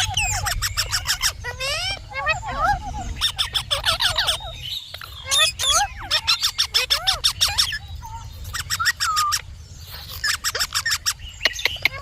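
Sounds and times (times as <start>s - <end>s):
parakeet chirping and squawking: 0.0s - 12.0s.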